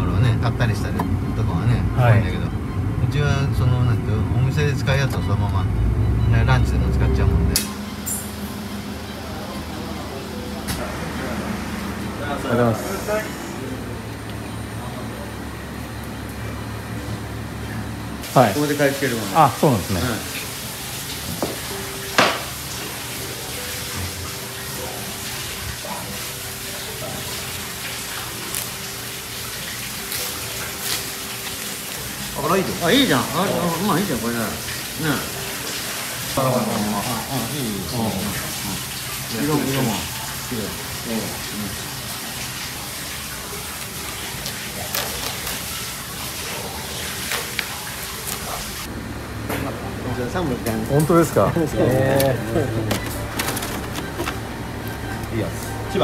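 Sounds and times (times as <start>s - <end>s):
running water: 6.4s - 49.0s, 49.6s - 56.0s.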